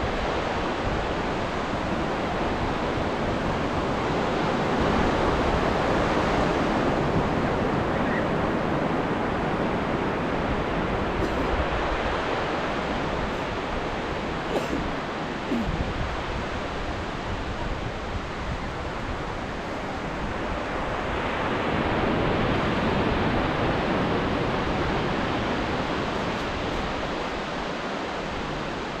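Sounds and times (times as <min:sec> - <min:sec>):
waves breaking on beach: 0:00.0 - 0:29.0.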